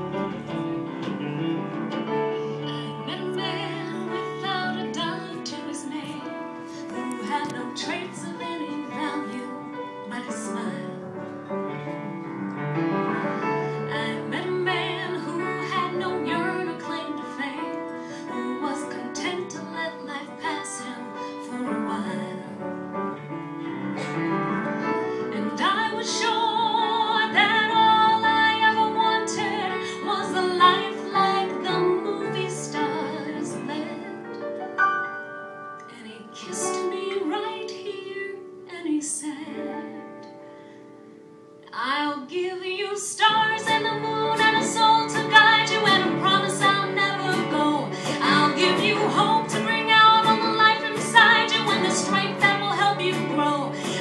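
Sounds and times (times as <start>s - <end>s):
grand piano: 0.0s - 54.0s
woman singing: 2.6s - 11.3s, 13.4s - 22.9s, 25.2s - 34.3s, 35.8s - 40.2s, 41.6s - 54.0s.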